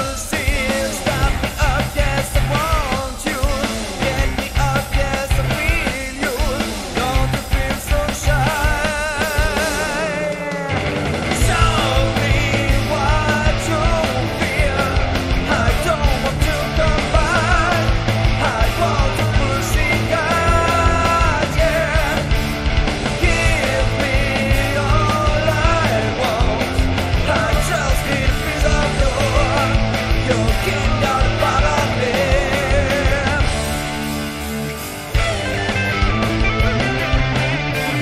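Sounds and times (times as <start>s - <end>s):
rock song with singing: 0.0s - 38.0s.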